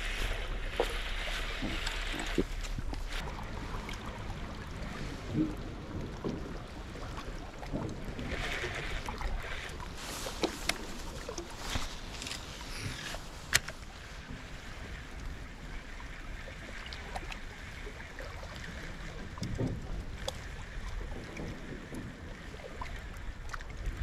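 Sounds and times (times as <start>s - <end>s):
river water lapping against rocks: 0.0s - 24.0s.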